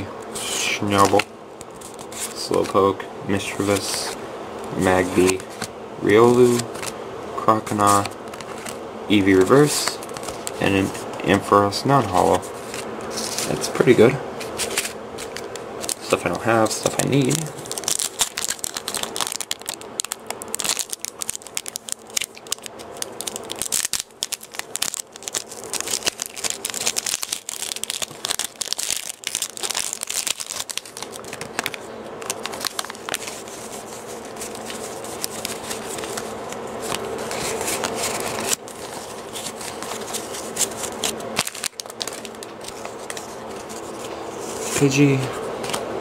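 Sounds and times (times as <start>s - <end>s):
foil wrapper crinkling and tearing: 4.8s - 6.9s, 7.7s - 11.0s, 12.1s - 45.8s.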